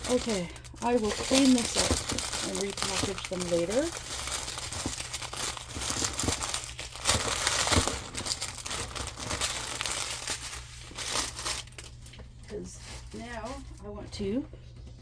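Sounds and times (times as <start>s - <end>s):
plastic packets crinkling: 0.0s - 13.9s.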